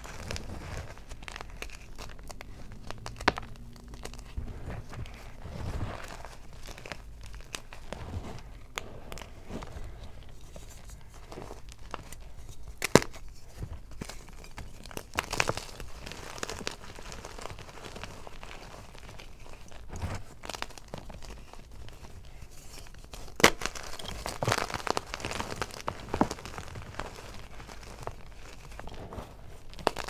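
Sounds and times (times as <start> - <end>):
hands crushing chalk blocks: 0.0 - 30.0.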